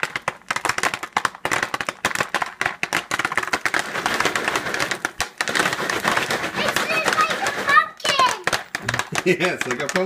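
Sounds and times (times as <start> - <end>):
popcorn kernels popping: 0.0 - 10.0.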